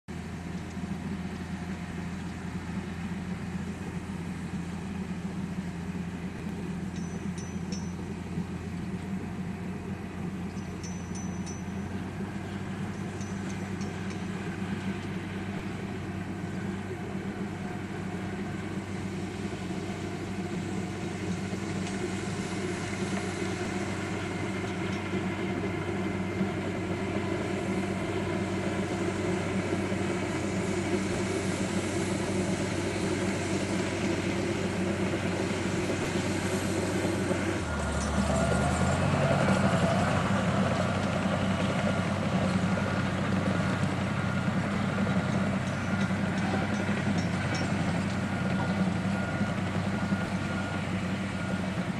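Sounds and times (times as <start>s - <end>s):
bulldozer diesel engine running: 0.1s - 51.9s.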